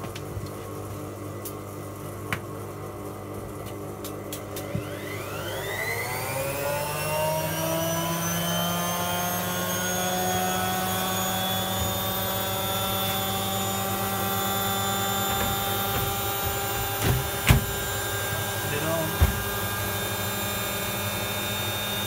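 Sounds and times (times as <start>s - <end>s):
washing machine spin whine: 0.0s - 22.0s.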